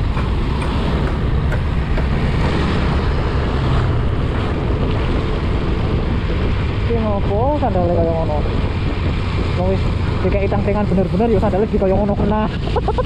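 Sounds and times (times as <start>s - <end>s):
motorcycle engine: 0.0s - 12.8s
road noise: 0.0s - 13.0s
wind rush on microphone: 0.0s - 13.0s.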